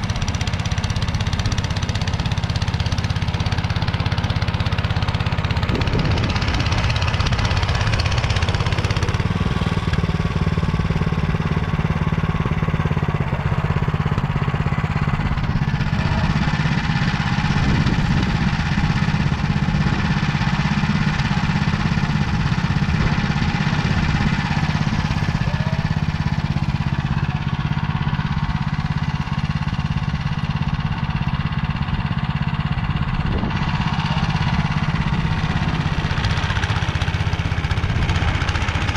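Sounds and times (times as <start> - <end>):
rotary tiller in soil: 0.0 - 38.9
walk-behind tractor engine running: 0.0 - 38.9.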